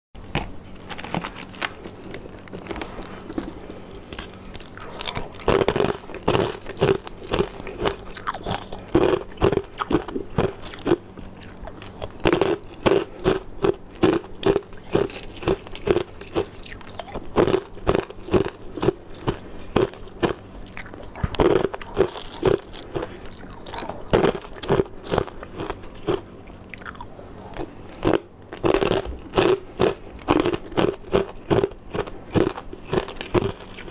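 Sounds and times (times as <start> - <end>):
person crunching ice: 0.7 - 26.2, 28.0 - 33.9.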